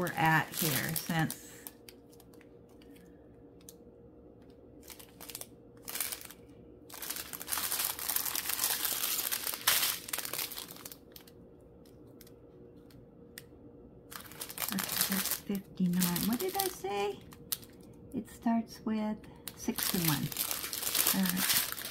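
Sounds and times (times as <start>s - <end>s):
plastic bags crinkling: 0.0s - 3.8s, 4.8s - 12.4s, 14.1s - 18.0s, 19.4s - 21.9s.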